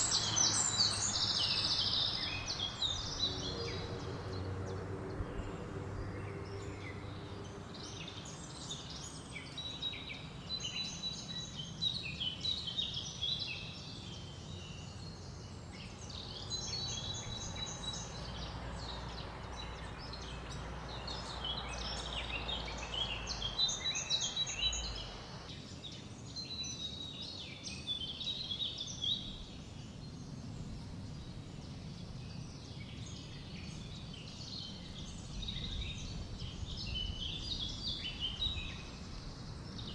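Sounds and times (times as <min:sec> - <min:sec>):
songbirds singing and chirping: 0:00.0 - 0:39.9
wind through leaves: 0:00.0 - 0:39.9.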